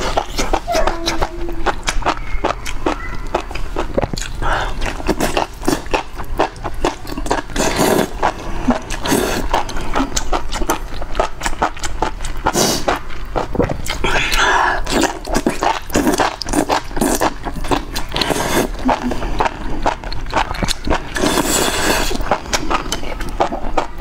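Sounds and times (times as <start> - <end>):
slurping: 0.0 - 23.9
wet chewing and mouth clicks: 0.0 - 24.0.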